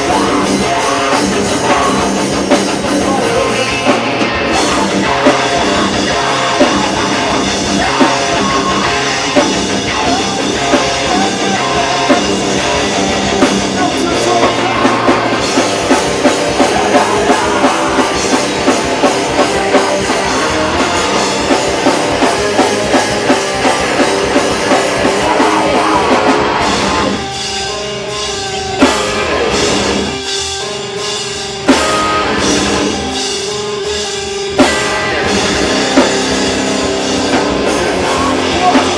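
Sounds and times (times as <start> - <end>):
distorted electric guitars: 0.0 - 38.9
drum kit playing fast: 0.0 - 38.9.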